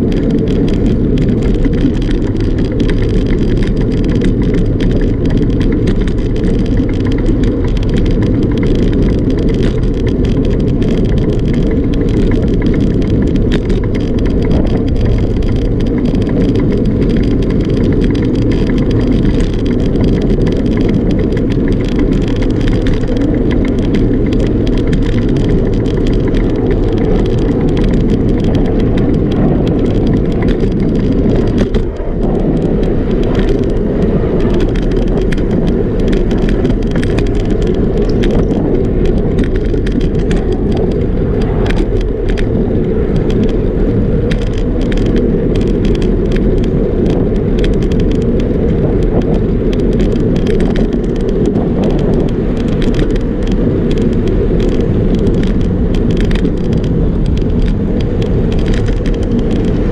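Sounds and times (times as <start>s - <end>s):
small clicks and rattles: 0.0s - 59.9s
tyre rumble on pavement: 0.0s - 59.9s
wind rush on microphone: 0.0s - 59.9s.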